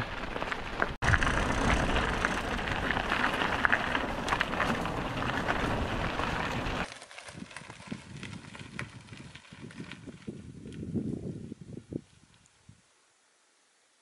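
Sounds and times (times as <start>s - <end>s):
bike tyres crunching on gravel: 0.0s - 12.5s.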